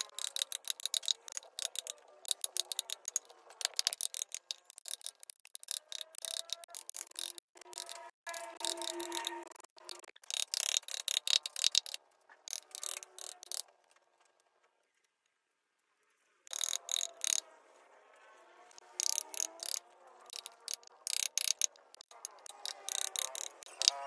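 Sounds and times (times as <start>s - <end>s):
carving tools cutting wood: 0.0s - 14.0s, 16.5s - 17.5s, 18.4s - 24.0s.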